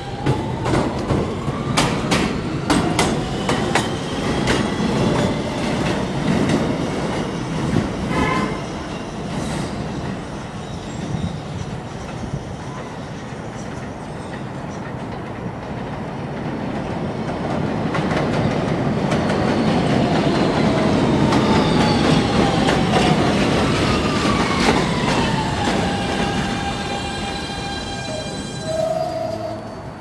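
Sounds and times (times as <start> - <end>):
subway train pulling out: 0.0 - 30.0.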